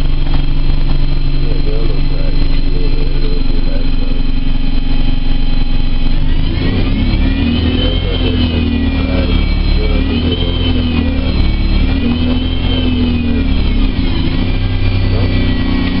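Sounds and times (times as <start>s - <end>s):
bus diesel engine running: 0.0s - 16.0s
high whine rising in pitch: 0.0s - 16.0s.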